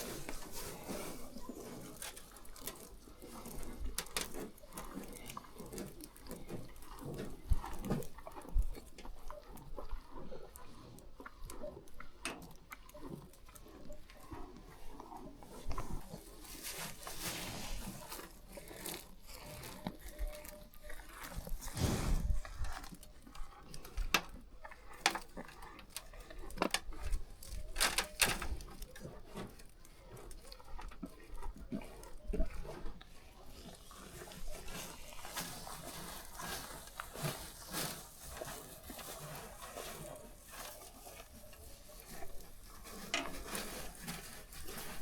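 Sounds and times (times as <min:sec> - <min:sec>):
livestock moving and feeding: 0:00.0 - 0:45.0.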